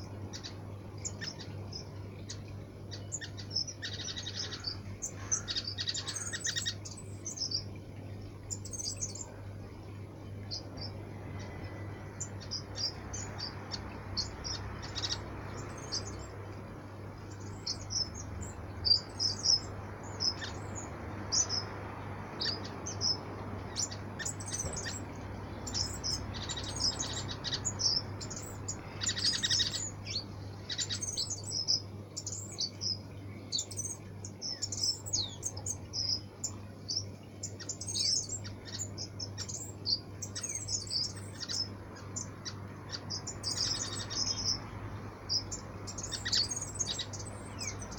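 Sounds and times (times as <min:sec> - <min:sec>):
fountain trickling: 0:00.0 - 0:47.9
small birds chirping: 0:00.0 - 0:47.9.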